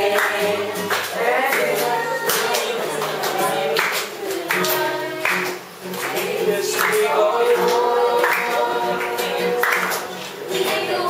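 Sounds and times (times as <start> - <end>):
acoustic guitar strumming: 0.0 - 11.0
young voices singing together: 0.0 - 11.0.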